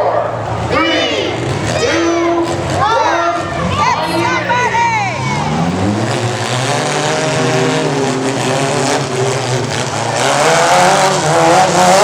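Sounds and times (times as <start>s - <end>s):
race truck engines running: 0.0s - 12.0s.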